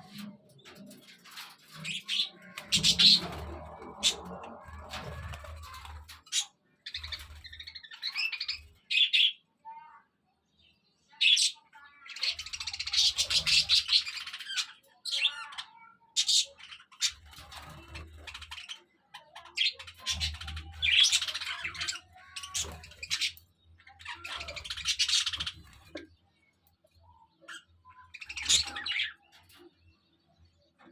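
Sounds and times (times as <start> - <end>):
budgerigars chirping and chattering: 0.0 - 9.4, 11.1 - 26.1, 27.0 - 30.1.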